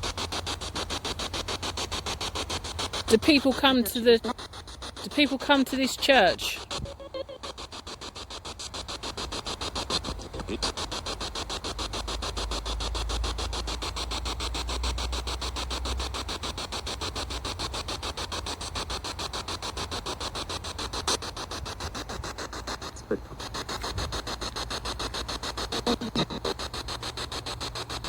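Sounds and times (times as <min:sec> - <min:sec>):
pulsing radio static: 0:00.0 - 0:16.6, 0:20.6 - 0:28.0.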